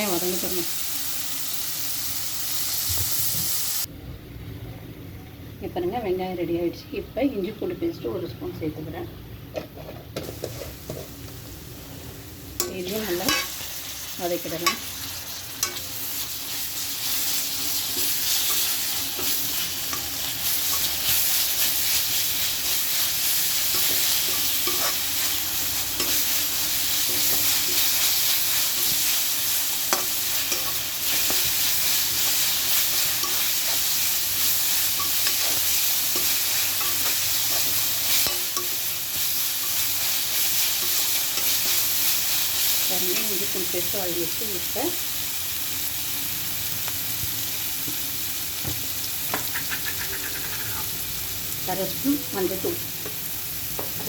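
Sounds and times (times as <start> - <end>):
food sizzling in hot oil: 0.0 - 3.9, 10.2 - 54.0.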